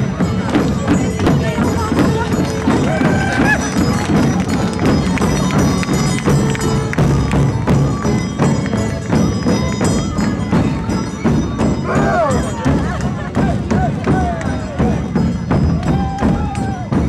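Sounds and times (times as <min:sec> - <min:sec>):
large metal bells clanging: 0:00.0 - 0:17.0.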